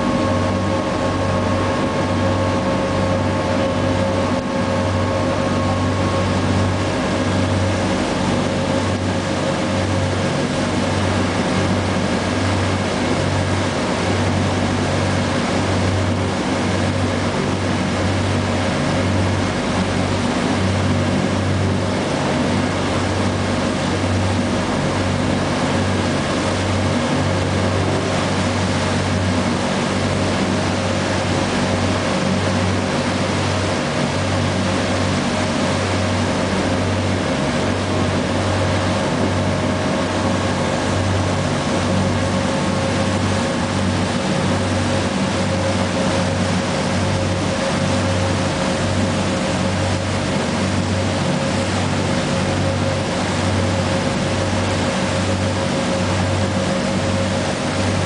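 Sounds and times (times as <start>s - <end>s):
boat engine droning: 0.0s - 58.0s
rushing water of boat wake: 0.0s - 58.0s.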